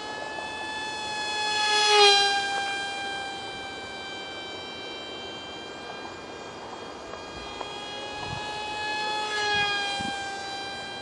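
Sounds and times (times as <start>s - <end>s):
small plane motor whine: 0.0s - 11.0s.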